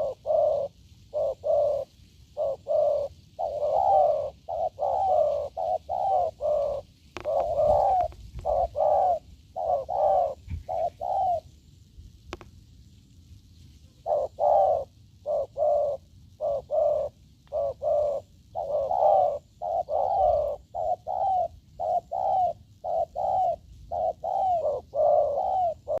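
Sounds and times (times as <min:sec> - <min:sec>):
dove cooing: 0:00.0 - 0:12.4, 0:13.9 - 0:26.0.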